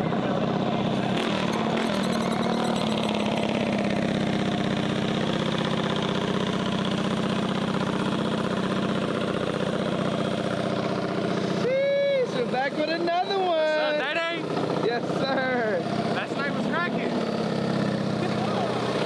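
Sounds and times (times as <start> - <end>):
mini bike engine idling: 0.0 - 19.0.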